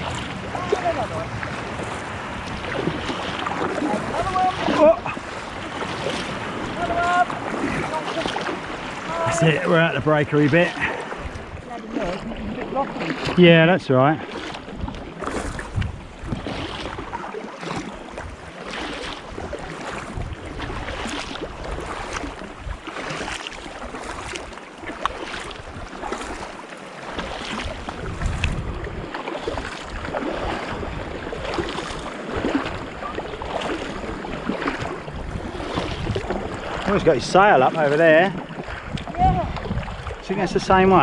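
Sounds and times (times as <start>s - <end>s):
wind on microphone: 0.0s - 13.5s, 14.4s - 24.6s, 27.2s - 37.8s, 38.4s - 41.0s
kayak paddles splashing: 0.0s - 41.0s
water lapping around kayak: 0.0s - 41.0s.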